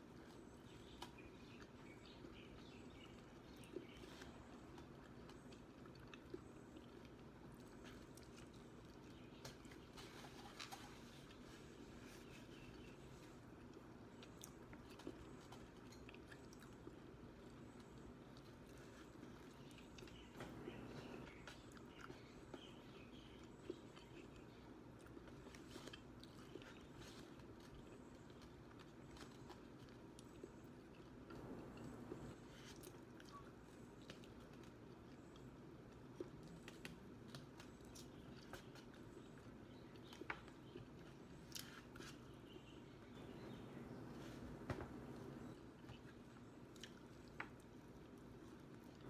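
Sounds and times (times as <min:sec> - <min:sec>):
faint chewing and biting: 0:00.0 - 0:49.0
low room hum: 0:00.0 - 0:49.0.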